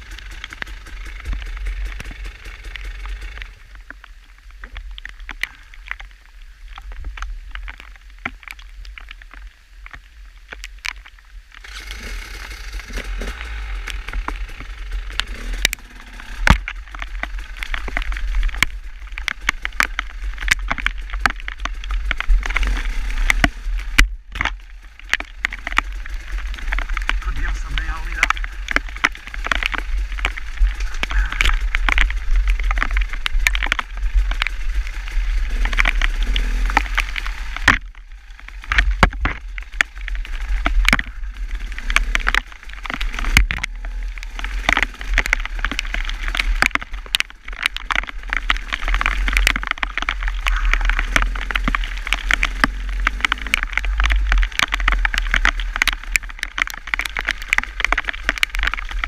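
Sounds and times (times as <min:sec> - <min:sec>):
crackling clicks: 0:00.0 - 0:59.0
wind rumbling on microphone: 0:00.0 - 0:59.0.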